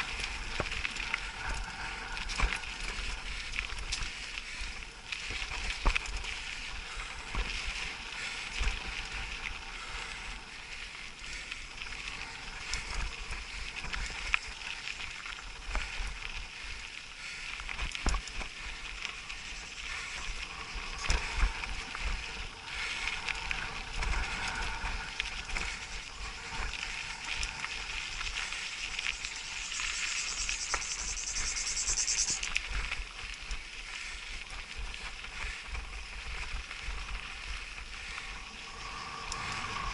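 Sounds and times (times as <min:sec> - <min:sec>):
bike tyres on gravel: 0:00.0 - 0:39.9
wind rumble on microphone: 0:00.0 - 0:39.9.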